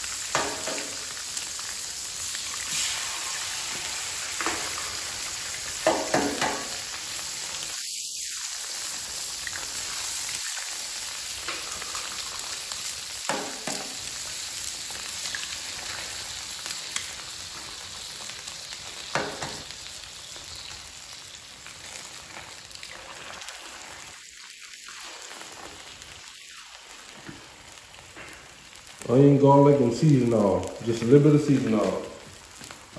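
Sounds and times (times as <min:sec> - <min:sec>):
eggs sizzling on a griddle: 0:00.0 - 0:32.9.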